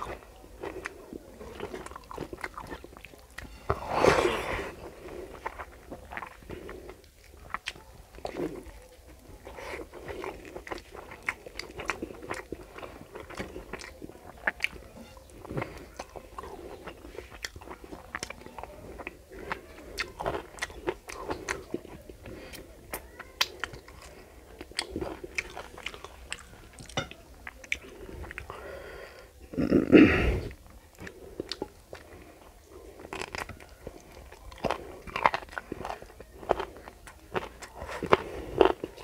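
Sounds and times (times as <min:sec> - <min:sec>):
person chewing food: 0:00.0 - 0:29.4, 0:30.1 - 0:39.0.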